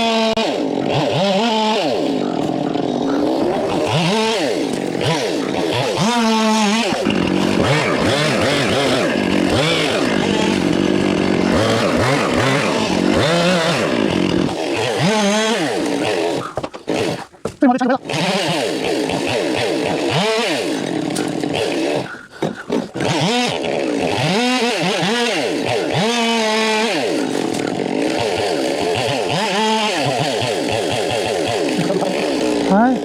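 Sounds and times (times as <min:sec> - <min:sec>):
chainsaw revving: 0:00.0 - 0:33.0.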